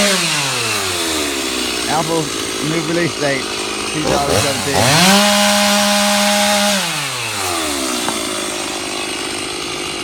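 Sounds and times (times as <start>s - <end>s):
chainsaw revving and idling: 0.0s - 10.0s.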